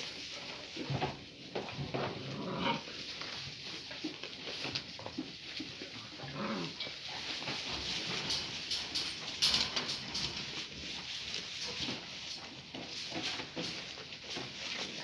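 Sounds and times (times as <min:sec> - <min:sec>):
rustling in straw: 0:00.0 - 0:15.0.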